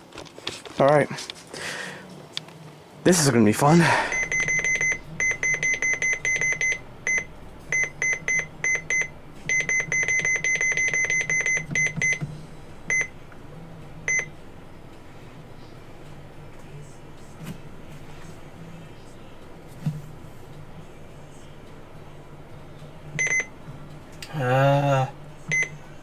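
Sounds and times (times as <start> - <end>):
electronic alarm beeping: 4.0 - 26.0.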